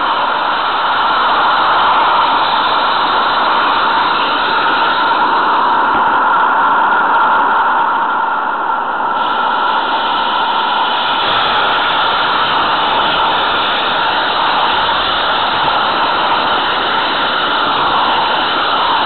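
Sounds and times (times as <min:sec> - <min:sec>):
model train running on track: 0:00.0 - 0:07.9, 0:08.8 - 0:19.0.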